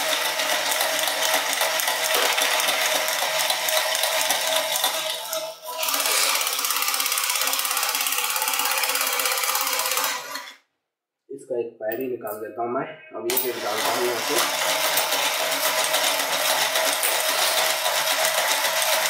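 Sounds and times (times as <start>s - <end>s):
toy motor whirring and ticking: 0.0s - 10.6s, 13.4s - 19.0s.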